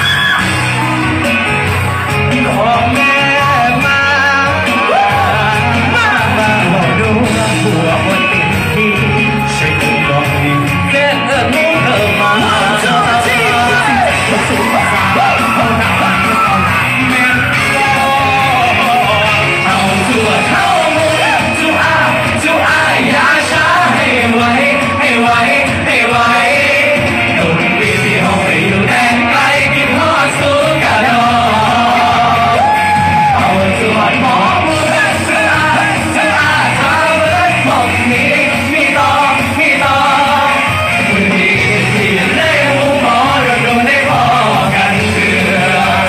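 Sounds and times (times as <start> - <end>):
fans yelling and screaming: 0.0 - 46.0
live band music: 0.0 - 46.0
men singing together: 2.3 - 46.0.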